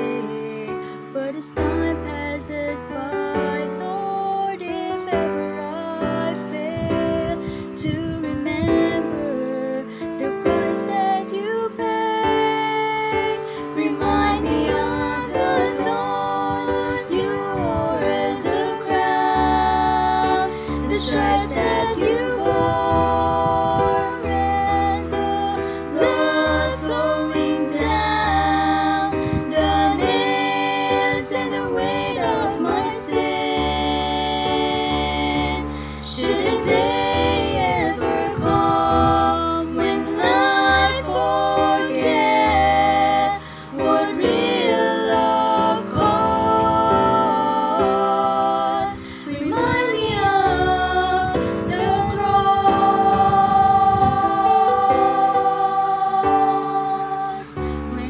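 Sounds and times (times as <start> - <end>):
women singing in harmony: 0.0 - 58.0
low sustained notes: 11.3 - 58.0.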